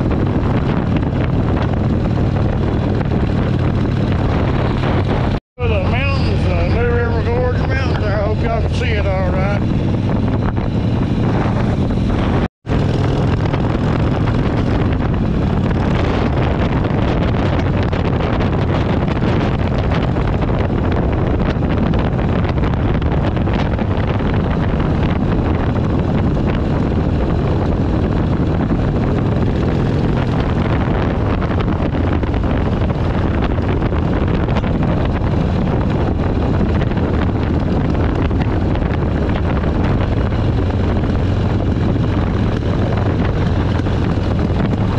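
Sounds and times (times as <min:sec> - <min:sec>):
motorcycle engine cruising: 0:00.0 - 0:44.9
wind rushing over microphone: 0:00.0 - 0:44.9.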